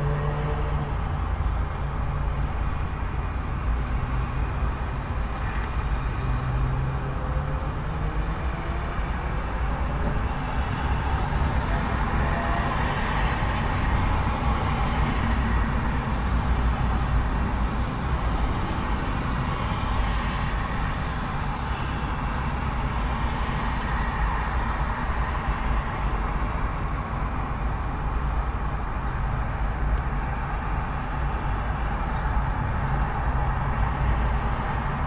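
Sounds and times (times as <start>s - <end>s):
heavy road traffic rumble: 0.0s - 35.0s.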